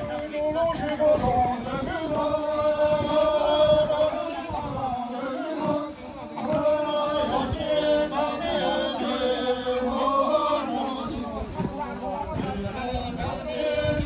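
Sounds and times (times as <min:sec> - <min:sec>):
voices singing a chant: 0:00.0 - 0:14.0.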